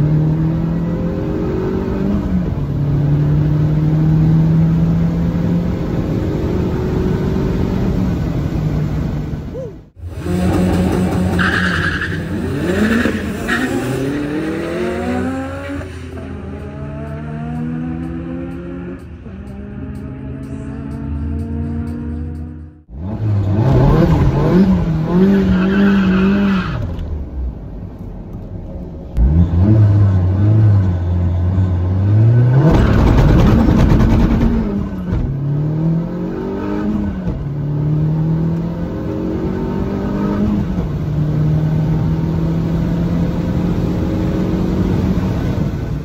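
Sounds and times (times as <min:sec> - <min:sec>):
car engine at full throttle: 0:00.0 - 0:46.0.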